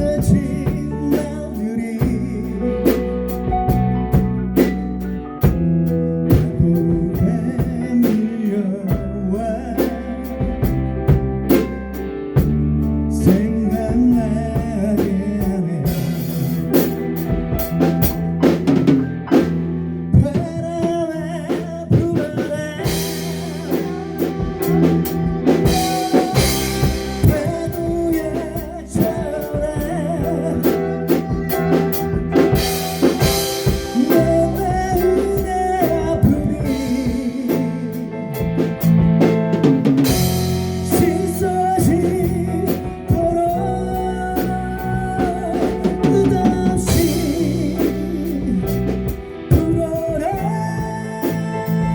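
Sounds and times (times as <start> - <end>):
person singing: 0.0 - 18.9, 20.1 - 51.9
bass guitar: 0.0 - 51.9
drum kit: 0.0 - 51.9
guitar: 0.0 - 51.9.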